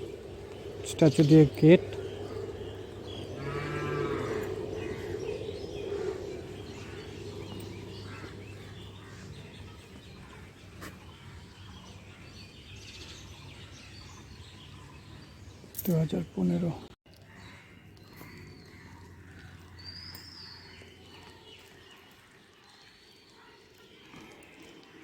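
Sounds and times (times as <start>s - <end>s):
outdoor background hum: 0.0s - 22.7s
birds chirping and calling: 0.0s - 25.0s.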